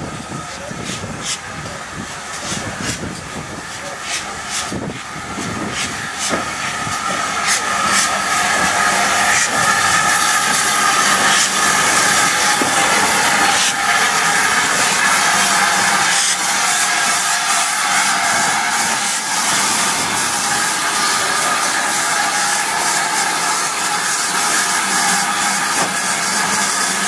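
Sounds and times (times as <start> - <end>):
steam train hissing: 0.0 - 27.0.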